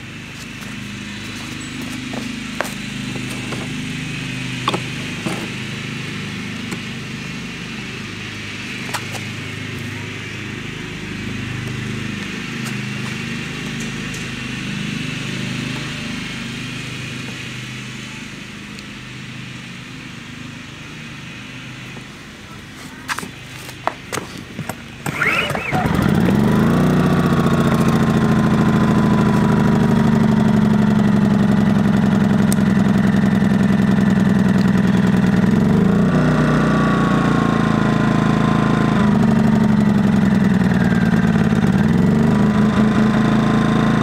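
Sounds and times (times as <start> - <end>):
small engine running: 0.0 - 44.0.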